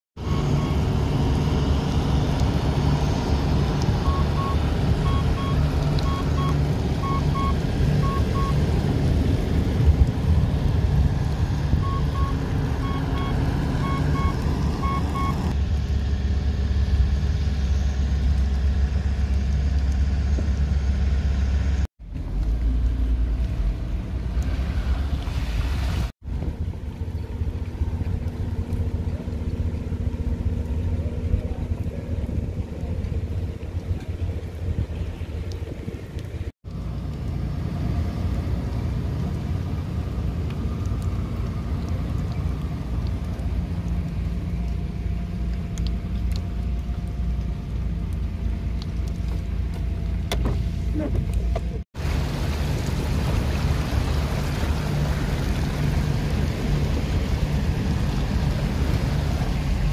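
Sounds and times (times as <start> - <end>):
engine and road rumble: 0.2 - 59.9
water washing around vehicle: 0.2 - 59.9.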